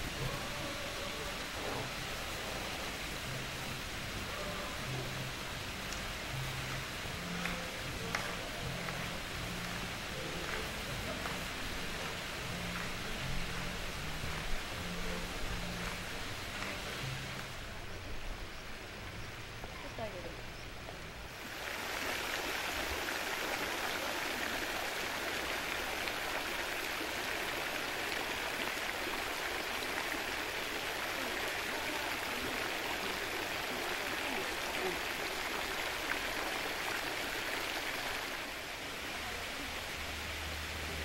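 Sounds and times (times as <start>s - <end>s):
fountain jets splashing into water: 0.0s - 18.1s, 21.0s - 41.0s.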